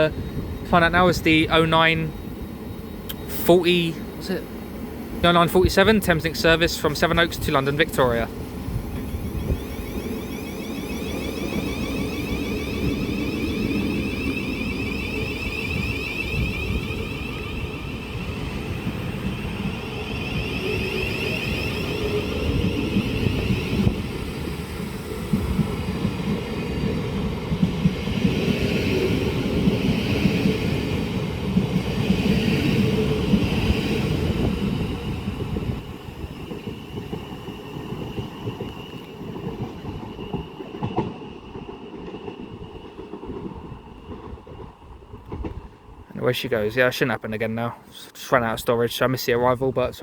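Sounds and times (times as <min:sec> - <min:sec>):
electric train whine: 0:00.0 - 0:46.2
wheels rumbling on rails: 0:00.0 - 0:46.4.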